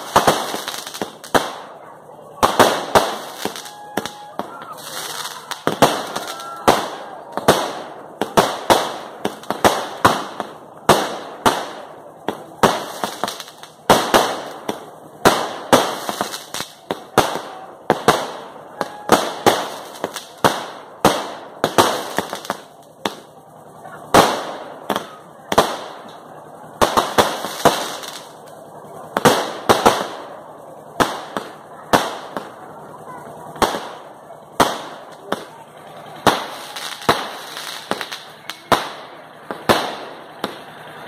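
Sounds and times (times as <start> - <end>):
firework bursts and bangs: 0.0 - 41.0
fireworks fizzing: 0.0 - 41.0.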